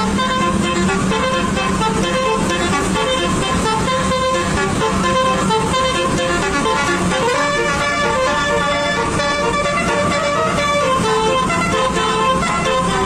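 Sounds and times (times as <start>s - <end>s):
bus musical horn playing tune: 0.0s - 13.0s
steady low drone: 0.0s - 13.0s.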